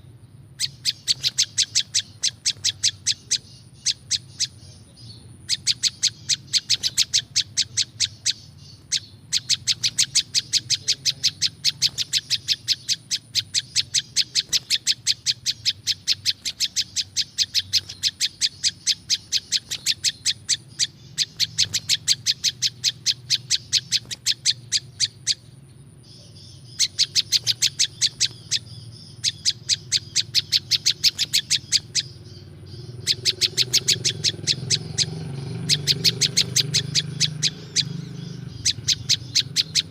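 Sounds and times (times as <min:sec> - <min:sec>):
bird chip notes: 0:00.0 - 0:39.9.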